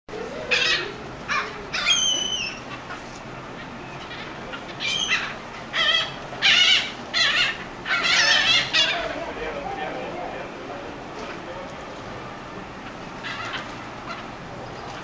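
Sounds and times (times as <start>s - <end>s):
gulls calling: 0.1s - 15.0s.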